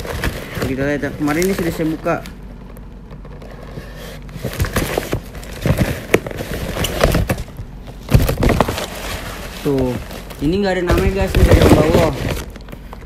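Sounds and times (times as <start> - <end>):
gift bag rustling: 0.0 - 12.9.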